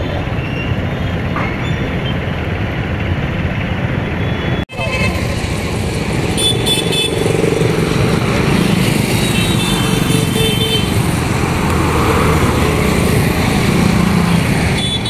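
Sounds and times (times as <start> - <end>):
road noise rushing: 0.0 - 15.0.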